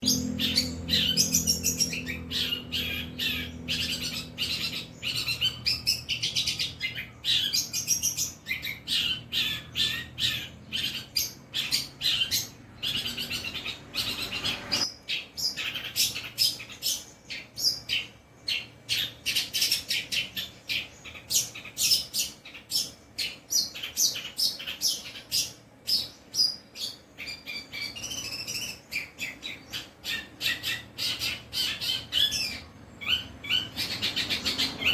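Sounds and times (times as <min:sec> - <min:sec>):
bird singing chattering phrases: 0:00.0 - 0:34.9.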